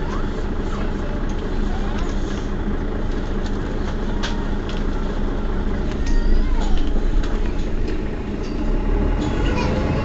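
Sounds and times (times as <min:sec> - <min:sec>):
bus engine hum: 0:00.0 - 0:10.0.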